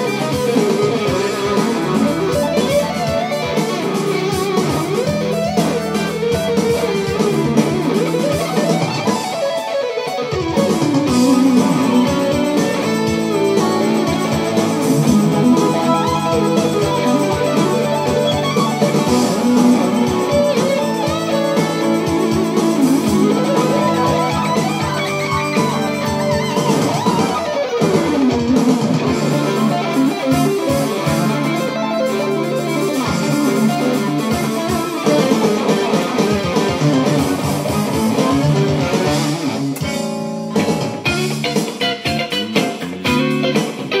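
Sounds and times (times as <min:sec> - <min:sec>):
electric guitar lead runs: 0:00.0 - 0:44.0.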